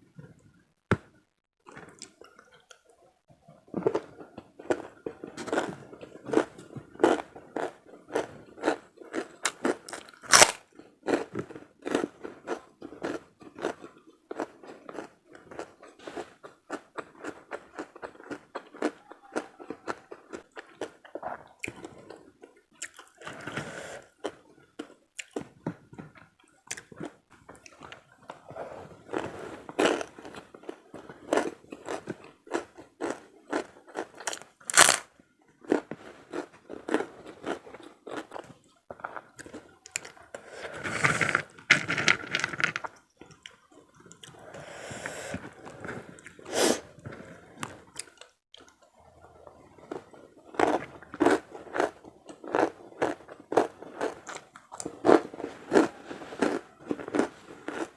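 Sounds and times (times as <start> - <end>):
chewing and crunching: 3.5 - 44.6, 45.3 - 57.9.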